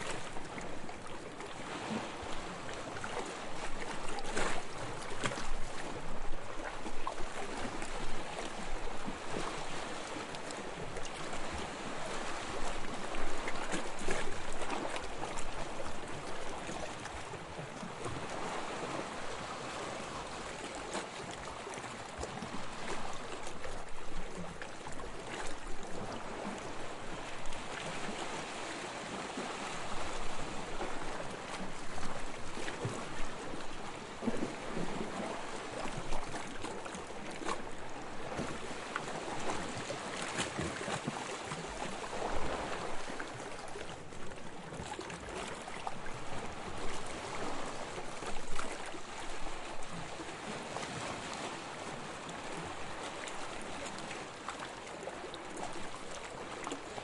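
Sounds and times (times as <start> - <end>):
light water splashes: 0.0 - 57.0
sea water washing and lapping: 0.0 - 57.0.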